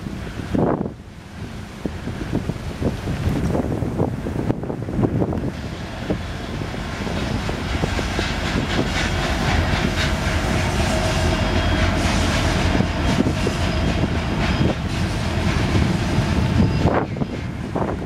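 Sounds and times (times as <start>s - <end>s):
diesel locomotive engines rumbling: 0.0s - 18.0s.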